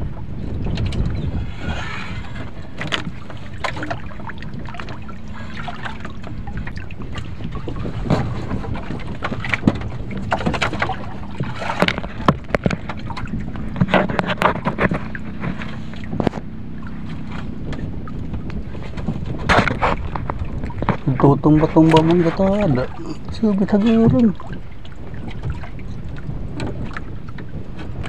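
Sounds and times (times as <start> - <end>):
knocks and clicks from hull: 0.0 - 28.0
sea water slapping against boat: 0.0 - 28.0.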